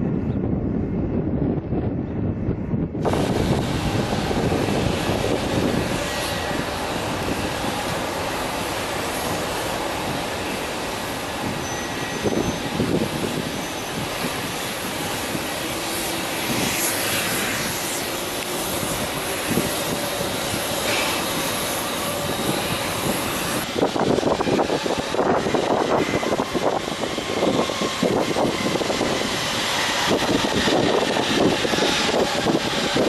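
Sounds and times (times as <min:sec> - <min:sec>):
jet engines running: 0:00.4 - 0:33.0.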